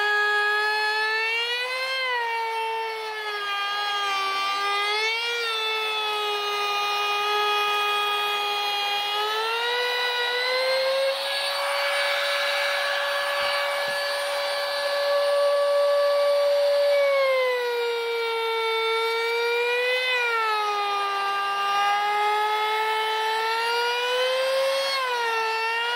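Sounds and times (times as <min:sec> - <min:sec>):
router motor whining: 0:00.0 - 0:25.9.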